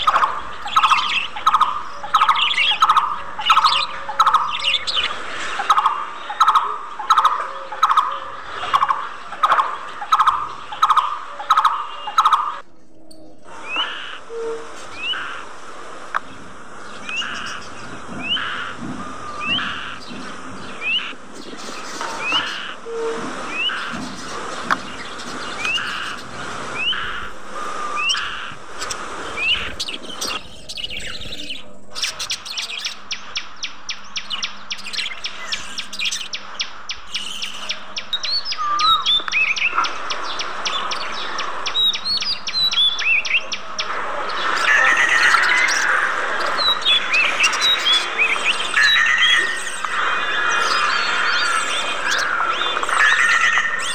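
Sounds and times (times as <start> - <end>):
budgerigars chirping: 0.0 - 12.6, 13.5 - 15.5, 16.9 - 53.9.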